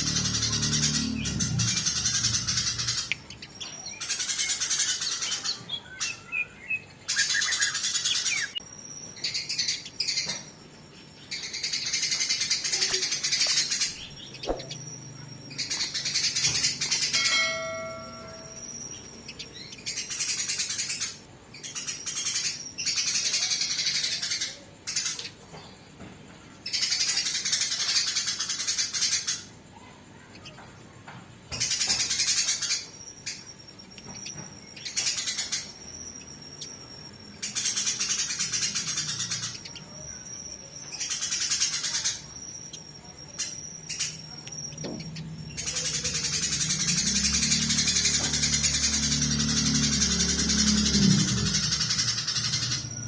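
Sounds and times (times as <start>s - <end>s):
sparrows chattering harshly: 0.0s - 25.9s, 26.6s - 53.0s.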